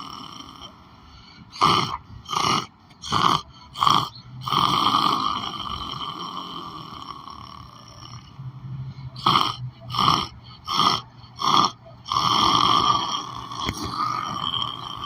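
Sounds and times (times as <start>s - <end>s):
person snoring and snorting: 0.0s - 15.0s.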